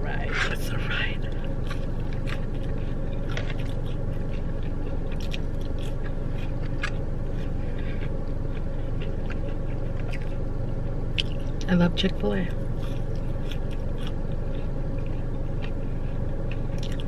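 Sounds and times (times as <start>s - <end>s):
person chewing fries: 0.0s - 11.7s, 12.5s - 17.0s
steady low hum: 0.0s - 17.0s.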